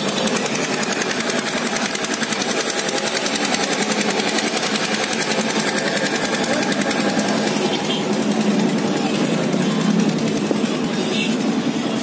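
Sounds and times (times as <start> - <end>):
fast mechanical rattle: 0.0 - 11.0.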